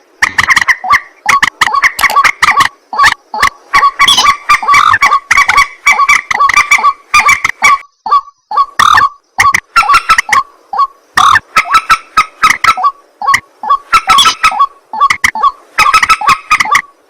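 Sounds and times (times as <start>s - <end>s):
bird harsh croaking calls: 0.0s - 17.0s.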